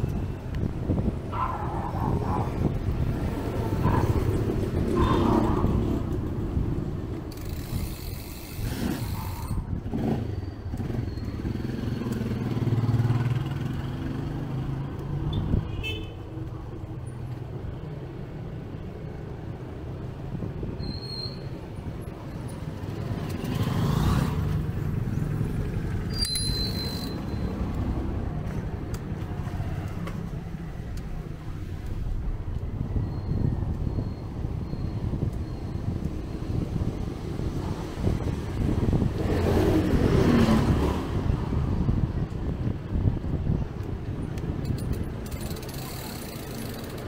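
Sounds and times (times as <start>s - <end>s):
motorcycles and cars passing: 0.0s - 20.8s, 21.5s - 47.0s.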